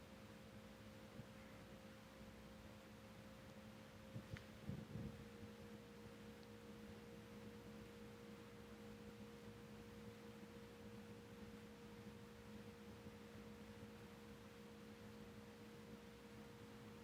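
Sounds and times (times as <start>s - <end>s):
faint two-tone hum: 0.0s - 17.0s
low background hiss: 0.0s - 17.0s.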